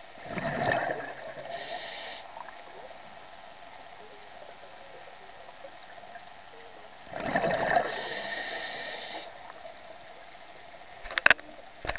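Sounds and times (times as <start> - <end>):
faint underwater hiss: 0.0 - 11.9.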